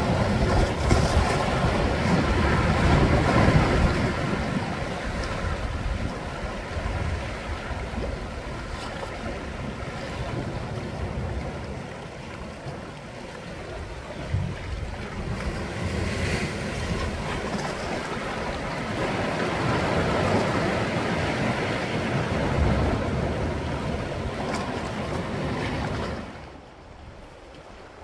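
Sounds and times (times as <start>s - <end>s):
sea waves washing over rocks: 0.0s - 28.0s.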